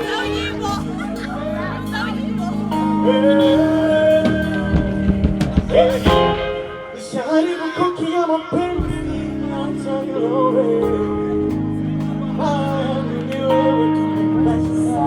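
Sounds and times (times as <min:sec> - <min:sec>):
live band music: 0:00.0 - 0:12.9
person singing: 0:00.0 - 0:15.0.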